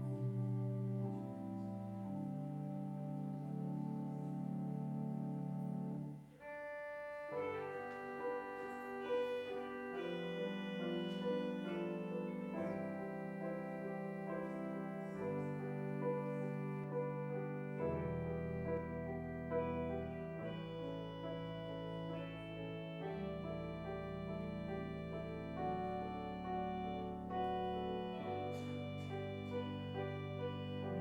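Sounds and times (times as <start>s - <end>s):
keyboard chords: 0.0s - 31.0s.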